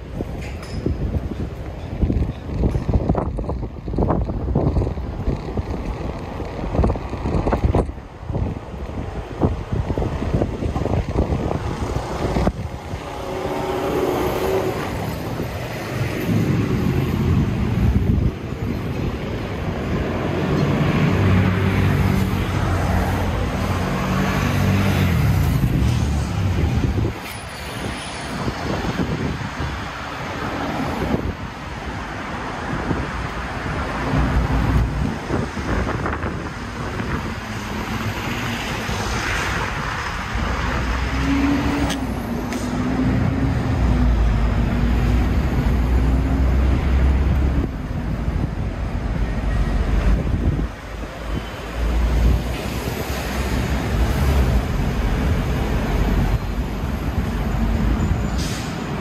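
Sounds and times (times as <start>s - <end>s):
vehicles passing with tyre hiss: 4.0s - 59.0s.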